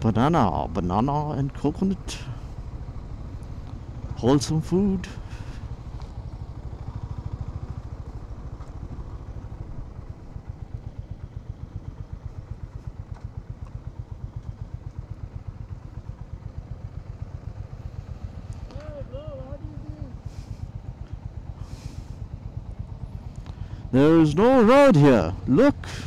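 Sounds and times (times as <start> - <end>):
motorcycle engine running low revs: 0.0 - 26.0.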